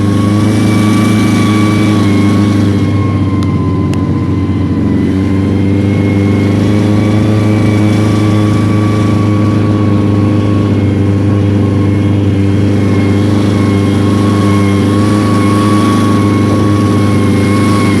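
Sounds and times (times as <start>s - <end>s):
loud steady engine drone: 0.0s - 18.0s.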